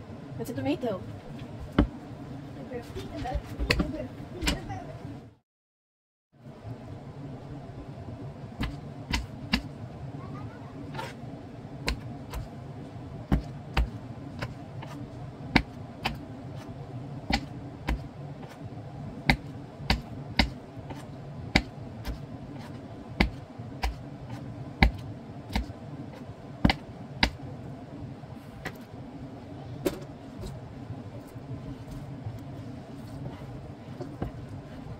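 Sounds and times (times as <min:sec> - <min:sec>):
steady low hum: 0:00.0 - 0:05.4, 0:06.4 - 0:34.9.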